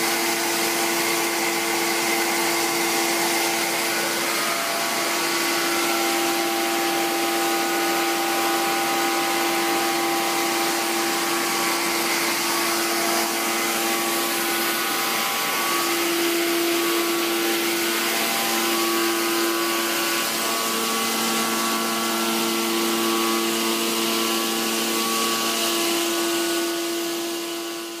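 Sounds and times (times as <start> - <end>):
blower hum: 0.0 - 28.0.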